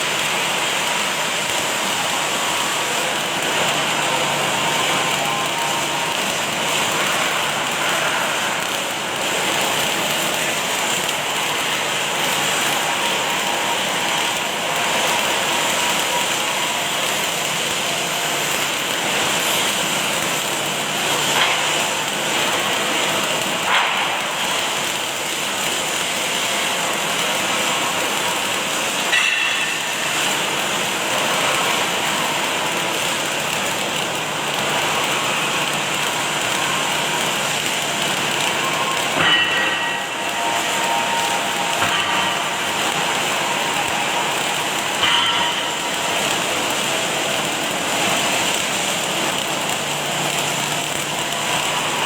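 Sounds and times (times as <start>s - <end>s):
welding arc hissing and crackling: 0.0s - 52.0s.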